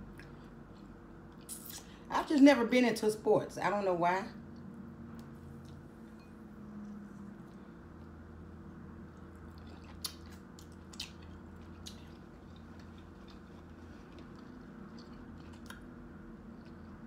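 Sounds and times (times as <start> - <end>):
person chewing food: 0.0 - 1.9, 4.6 - 17.0.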